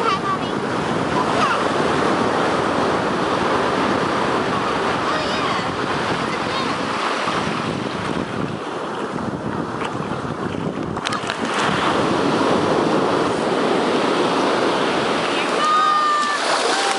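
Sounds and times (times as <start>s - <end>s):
ocean surf washing: 0.0s - 16.9s
wind buffeting microphone: 0.0s - 16.9s.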